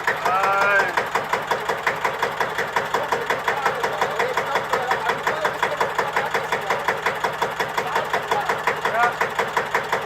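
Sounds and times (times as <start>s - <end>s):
diesel tractor engine idling: 0.0s - 10.0s.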